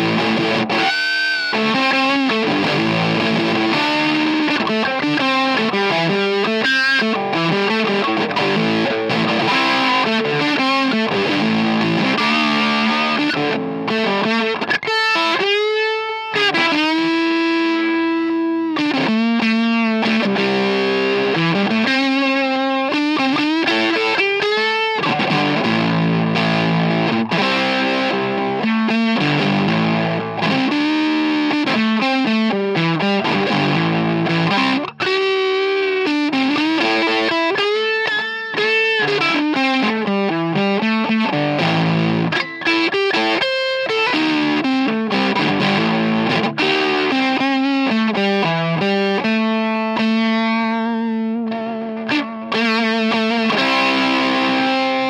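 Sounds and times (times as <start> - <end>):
fuzz electric guitar riffs: 0.0 - 55.0.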